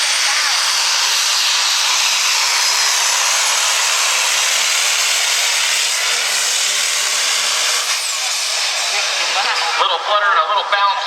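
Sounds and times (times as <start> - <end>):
diesel truck engine roaring: 0.0 - 11.0.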